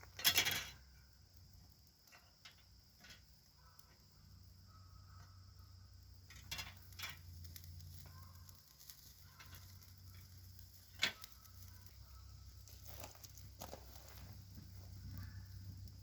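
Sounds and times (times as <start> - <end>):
campfire crackling and popping: 0.0 - 4.6, 5.6 - 16.0.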